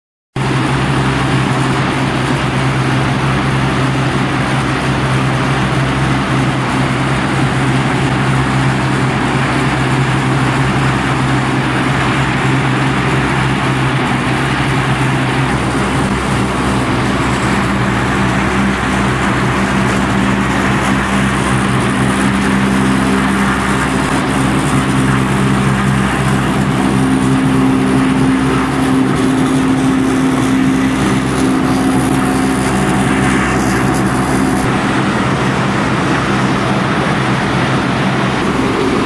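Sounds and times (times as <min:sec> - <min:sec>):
ball mill grinding rumble: 0:00.4 - 0:39.0
low drive hum: 0:00.4 - 0:39.0.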